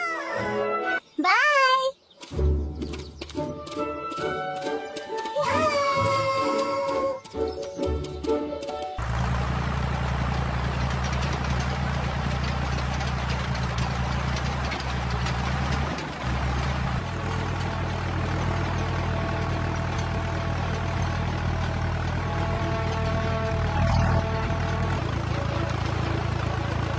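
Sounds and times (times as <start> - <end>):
tractor engine running: 2.2 - 26.9.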